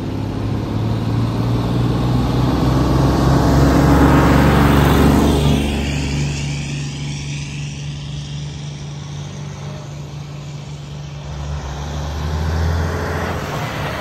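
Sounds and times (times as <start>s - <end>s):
truck engines rumbling: 0.0s - 14.0s.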